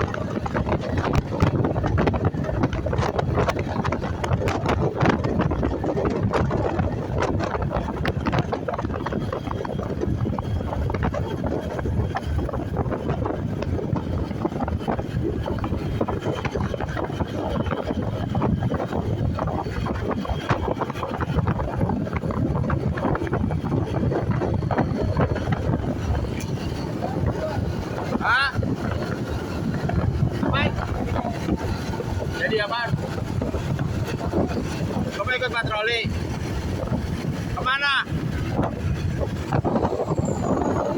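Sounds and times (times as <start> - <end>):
road noise: 0.0 - 40.9
wind buffeting microphone: 0.0 - 40.9.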